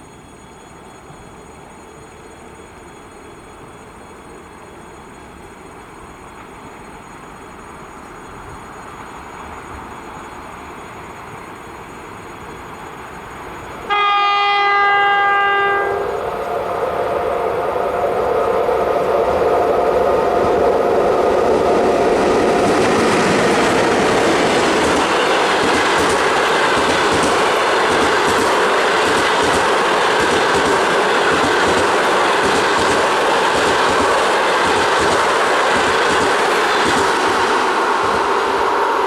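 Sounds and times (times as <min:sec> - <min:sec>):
train rolling past: 0:00.0 - 0:39.0.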